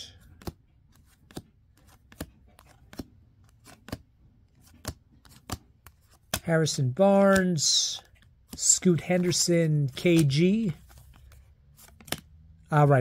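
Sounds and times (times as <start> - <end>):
card stock rustling: 0.2 - 12.4
cards snapping: 0.3 - 12.4.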